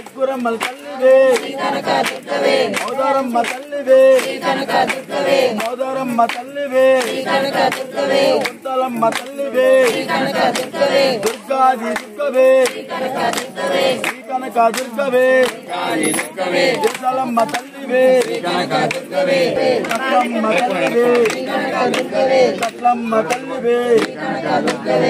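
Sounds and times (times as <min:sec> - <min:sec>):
sharp percussive beats: 0:00.0 - 0:22.0
group chanting in unison: 0:00.0 - 0:25.0.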